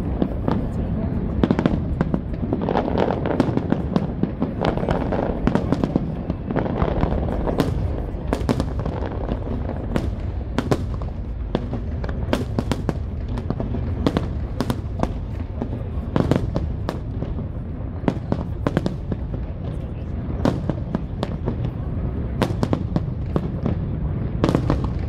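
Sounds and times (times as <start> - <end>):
fireworks cracks and bangs: 0.0 - 25.0.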